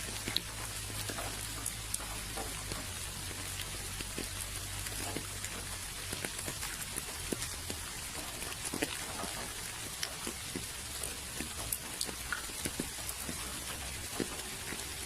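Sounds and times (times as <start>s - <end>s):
raindrops tapping close by: 0.0s - 15.0s
steady rainfall: 0.0s - 15.0s.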